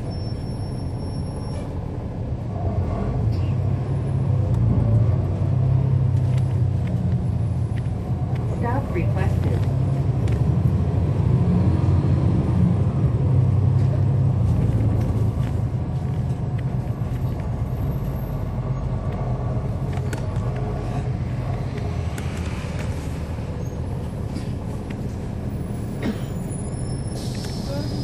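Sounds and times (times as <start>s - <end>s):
bus diesel engine droning: 0.0s - 28.0s.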